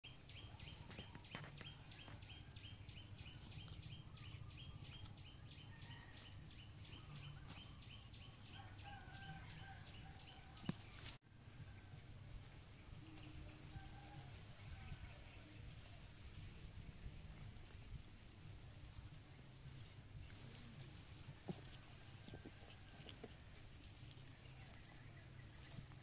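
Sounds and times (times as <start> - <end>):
rural outdoor ambience: 0.0 - 26.0.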